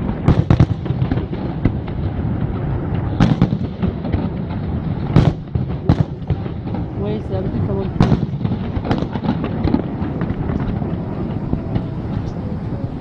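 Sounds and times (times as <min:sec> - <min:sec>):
fireworks bangs: 0:00.0 - 0:13.0
rumble of small firework cracks: 0:00.0 - 0:13.0.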